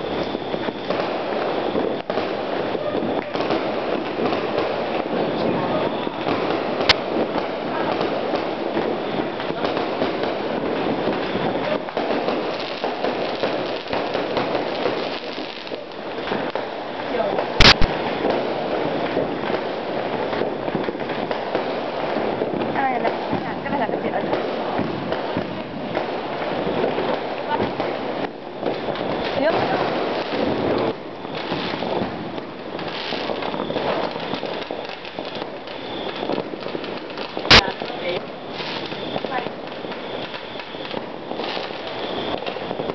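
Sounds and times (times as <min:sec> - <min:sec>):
fireworks crackling and popping: 0:00.0 - 0:42.9.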